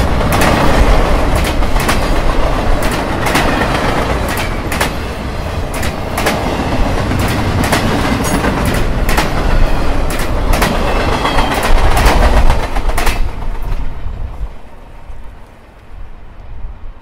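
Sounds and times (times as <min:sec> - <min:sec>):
train wheels clacking over rail joints: 0:00.0 - 0:13.9
heavy train rumble: 0:00.0 - 0:17.0.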